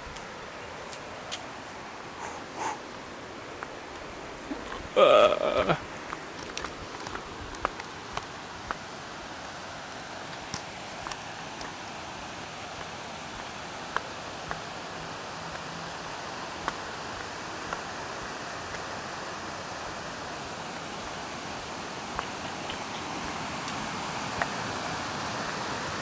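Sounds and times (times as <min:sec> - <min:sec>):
creek and waterfall rushing: 0:00.0 - 0:26.0.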